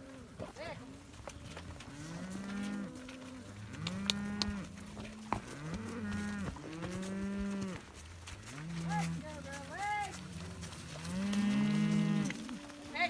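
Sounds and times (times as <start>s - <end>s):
cows mooing: 0.0s - 13.0s.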